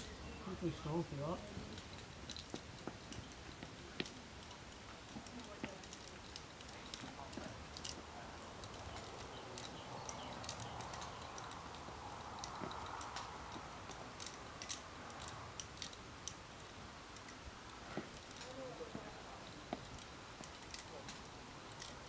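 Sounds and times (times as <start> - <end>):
faint steady hiss: 0.0 - 22.0
metal carabiners clinking: 0.0 - 22.0.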